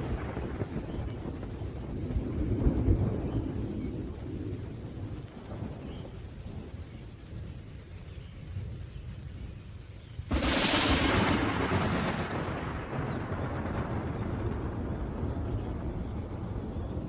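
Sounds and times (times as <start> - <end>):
rolling thunder: 0.0 - 7.5, 10.3 - 17.0
steady rain: 0.0 - 17.0.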